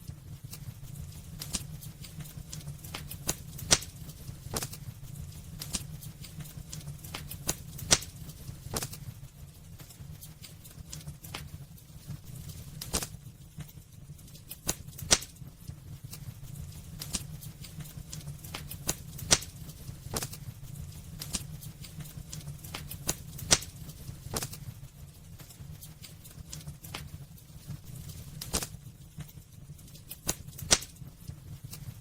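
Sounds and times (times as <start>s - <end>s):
fire crackling and popping: 0.0s - 32.0s
low rumble of fire: 0.0s - 32.0s.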